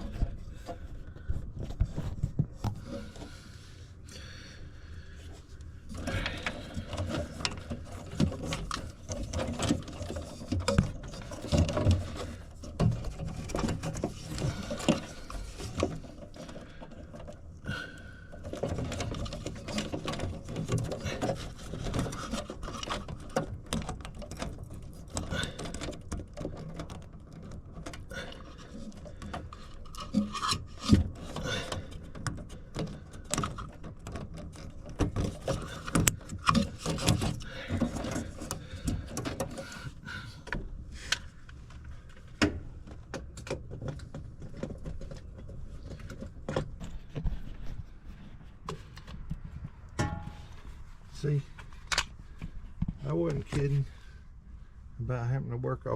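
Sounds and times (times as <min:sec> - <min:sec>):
rubbing and scraping: 0:05.0 - 0:55.2.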